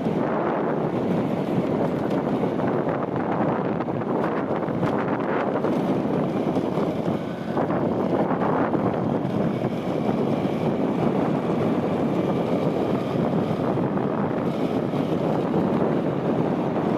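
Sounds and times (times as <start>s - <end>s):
vehicle road noise: 0.0s - 16.9s
wind buffeting microphone: 0.0s - 16.9s.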